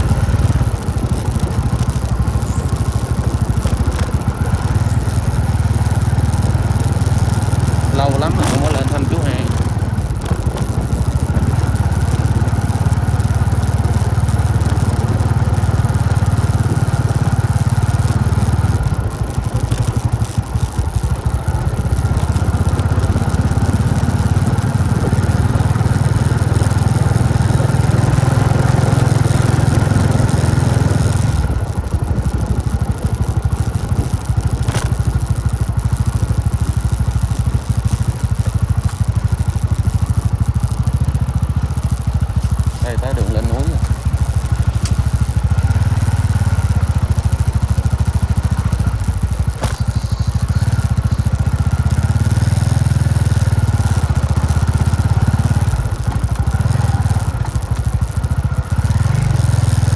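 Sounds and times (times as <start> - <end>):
motorbike engine running: 0.0 - 59.9
road and wind noise: 0.0 - 59.9.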